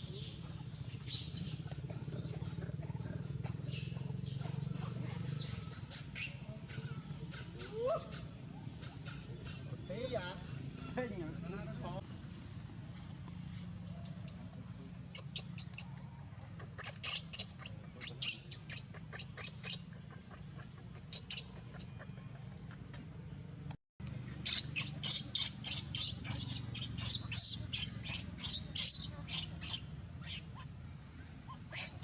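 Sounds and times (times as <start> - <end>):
animal chirps and squeaks: 0.1 - 11.0, 13.0 - 23.4, 24.2 - 30.7, 31.5 - 32.0.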